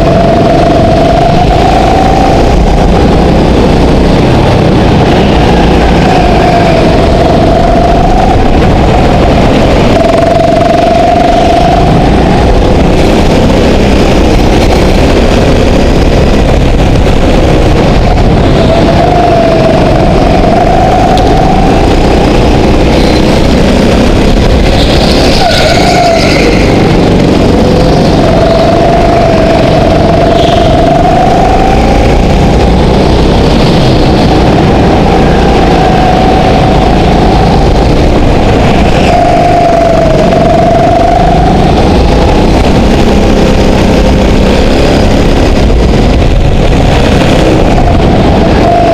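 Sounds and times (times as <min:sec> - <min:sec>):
go-kart engine running hard: 0:00.0 - 0:48.9.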